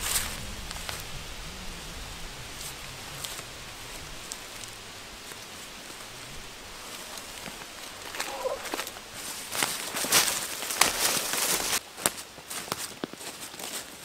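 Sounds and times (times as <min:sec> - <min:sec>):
dry leaves rustling: 0:00.0 - 0:14.0
outdoor ambience hiss: 0:00.0 - 0:14.0.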